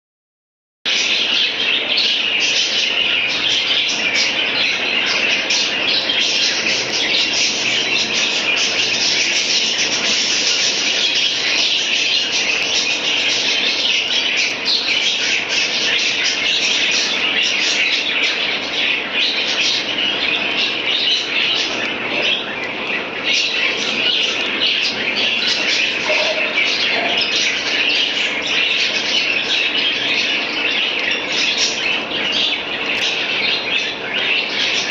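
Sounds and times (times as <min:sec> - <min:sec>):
birds chirping: 0:00.9 - 0:34.9.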